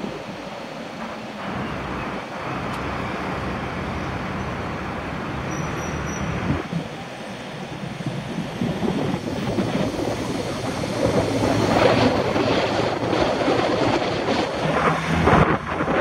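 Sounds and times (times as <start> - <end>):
van driving close: 0.0 - 15.9
street traffic rushing: 0.0 - 16.0.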